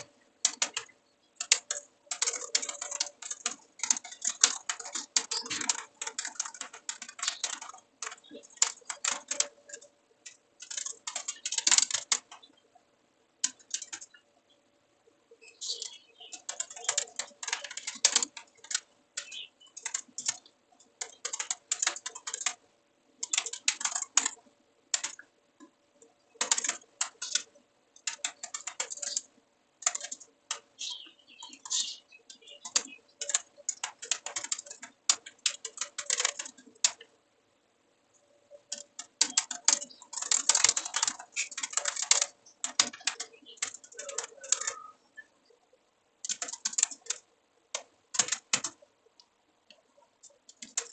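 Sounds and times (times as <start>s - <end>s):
keyboard typing: 0.0s - 12.8s, 13.4s - 14.2s, 15.4s - 37.1s, 38.1s - 45.6s, 46.2s - 50.9s
faint steady hum: 0.0s - 50.9s.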